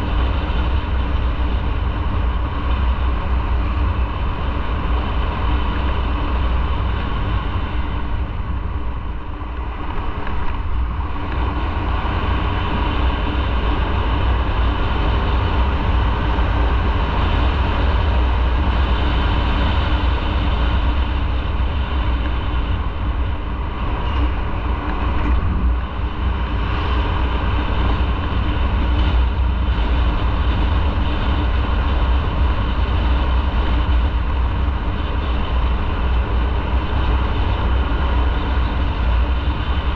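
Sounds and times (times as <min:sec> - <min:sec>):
motorcycle engine hum: 0:00.0 - 0:39.9
wind rumble on microphone: 0:00.0 - 0:39.9.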